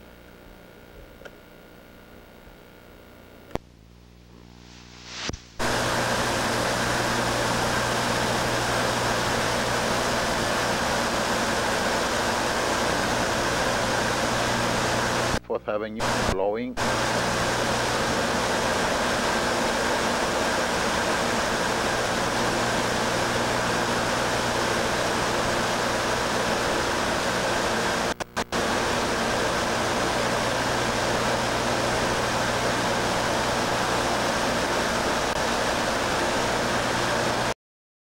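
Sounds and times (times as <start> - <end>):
fan blowing air through duct: 4.2 - 37.6.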